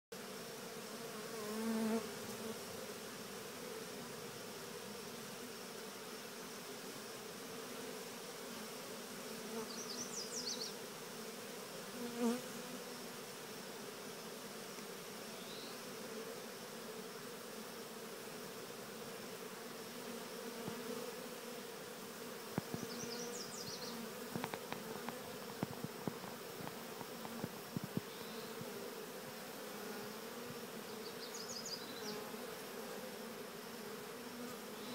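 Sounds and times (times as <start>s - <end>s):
bee swarm humming: 0.2s - 34.9s.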